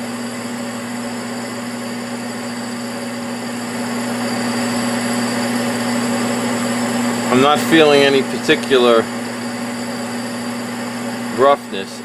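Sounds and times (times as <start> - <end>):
metal lathe humming: 0.0 - 12.0.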